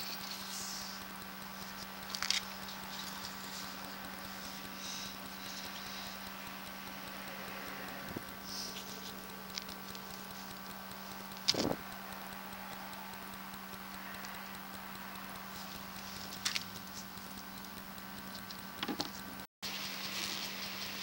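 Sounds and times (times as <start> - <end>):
faint clicks: 0.0 - 19.2
electrical hum: 0.0 - 21.0.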